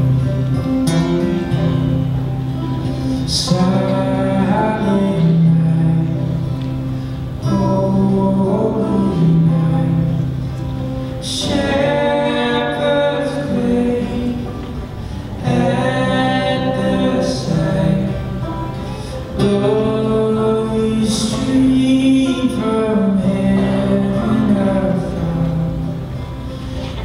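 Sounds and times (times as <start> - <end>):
acoustic guitar: 0.0 - 27.0
men singing slow melody: 2.9 - 27.0.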